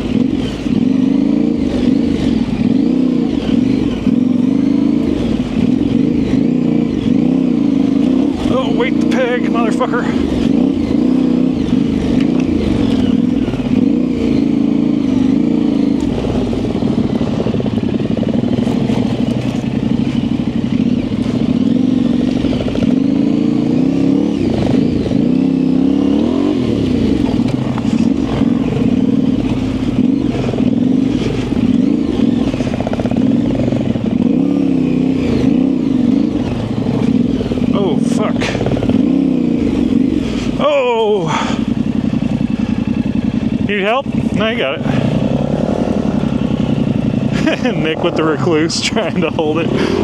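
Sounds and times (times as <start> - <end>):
motorcycle clatter: 0.0 - 50.0
motorcycle engine revving: 0.0 - 50.0.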